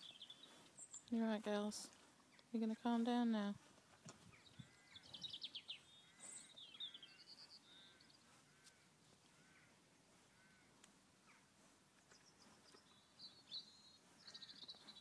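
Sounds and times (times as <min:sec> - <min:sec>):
faint birds calling: 0:00.0 - 0:02.8, 0:03.6 - 0:15.0
high bird twittering song: 0:00.0 - 0:02.8, 0:04.0 - 0:08.8, 0:09.4 - 0:15.0.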